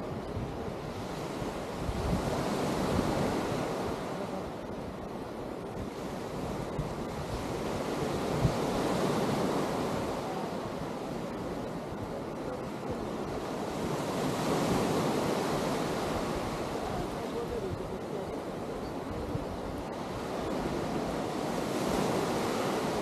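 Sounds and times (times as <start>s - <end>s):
surf washing onto sand: 0.0s - 23.0s
wind buffeting microphone: 0.0s - 23.0s.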